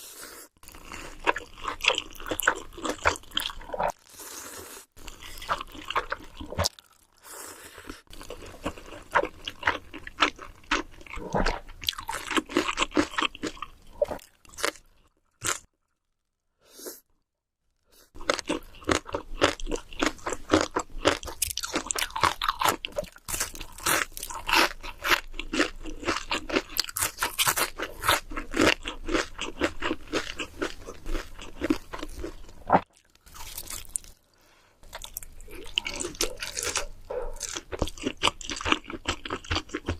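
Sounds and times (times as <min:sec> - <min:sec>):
chewing noodles: 0:00.5 - 0:15.7, 0:18.2 - 0:34.2, 0:34.8 - 0:39.9.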